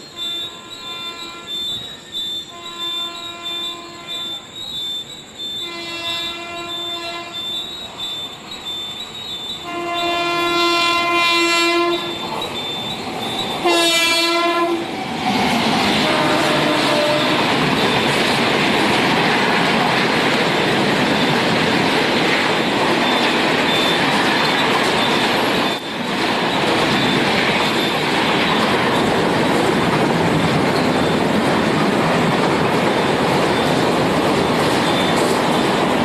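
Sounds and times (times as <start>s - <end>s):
train wheels rushing on rail: 0.0s - 36.0s.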